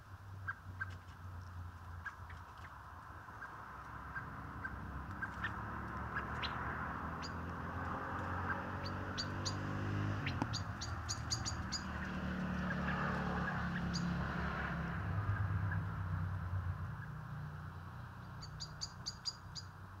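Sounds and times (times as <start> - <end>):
sharp bird calls: 0.4 - 1.1, 1.9 - 14.4, 15.2 - 16.0, 16.9 - 17.6, 18.2 - 20.0.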